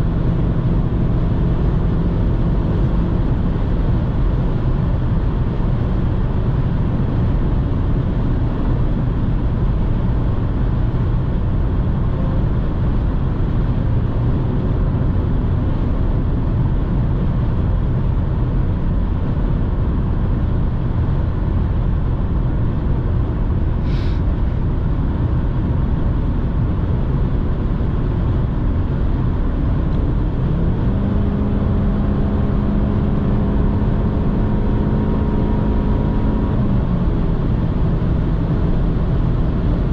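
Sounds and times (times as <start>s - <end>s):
car engine humming: 0.0s - 39.9s
wind and tyre noise: 0.0s - 39.9s.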